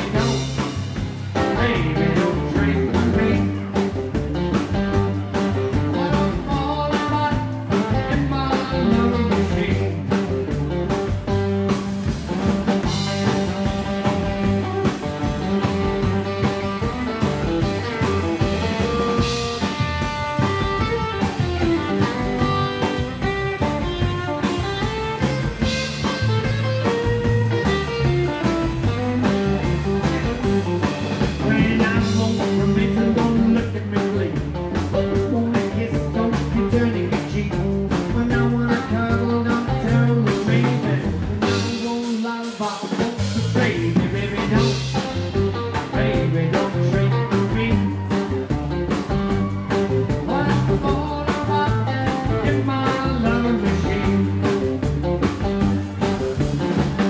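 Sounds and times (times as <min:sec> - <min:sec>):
acoustic rhythm guitar: 0:00.0 - 0:57.0
drum kit: 0:00.0 - 0:57.0
electric guitar: 0:00.0 - 0:57.0
upright double bass: 0:00.0 - 0:57.0.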